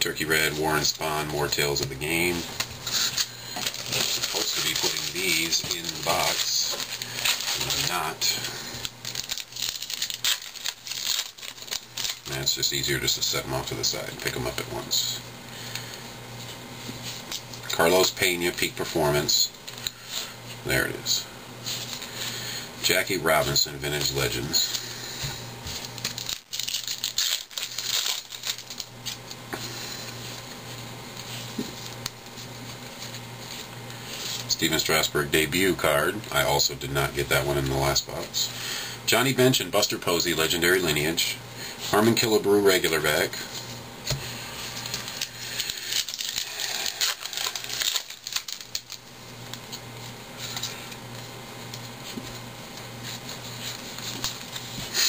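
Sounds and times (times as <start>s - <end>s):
low steady hum: 0.0s - 55.0s
cards and foil wrappers rustling: 0.1s - 55.0s.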